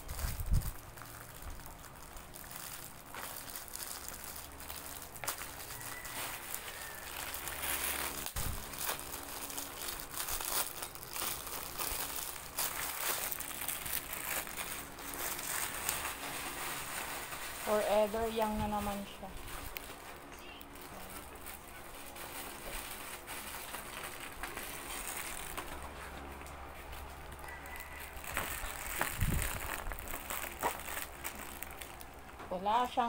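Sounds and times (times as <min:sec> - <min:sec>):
plastic wrapping crinkling: 0:00.0 - 0:33.0.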